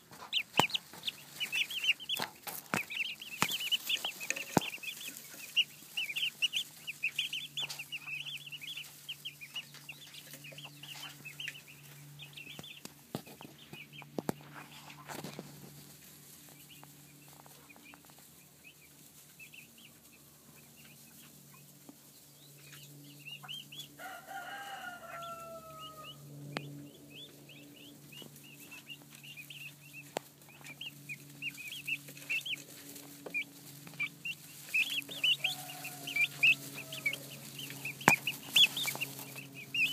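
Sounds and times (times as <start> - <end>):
faint low hum: 0.0 - 39.9
turkey poults peeping: 0.0 - 39.9.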